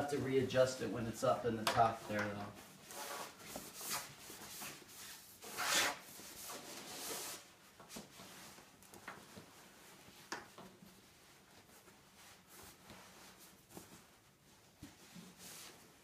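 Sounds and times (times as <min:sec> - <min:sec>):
cloth rustling and swishing: 0:01.9 - 0:16.0.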